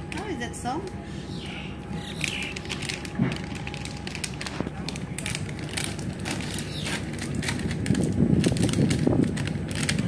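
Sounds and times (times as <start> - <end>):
train rumble inside coach: 0.0 - 10.0.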